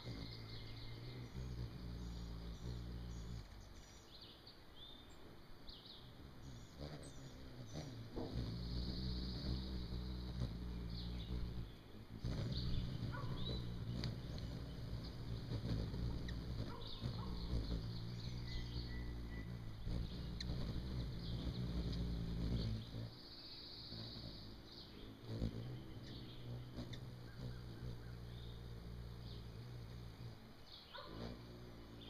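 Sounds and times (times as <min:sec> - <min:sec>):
bird chirps and trill: 0:00.0 - 0:05.2, 0:05.8 - 0:32.0
hummingbird wings humming: 0:00.0 - 0:32.0.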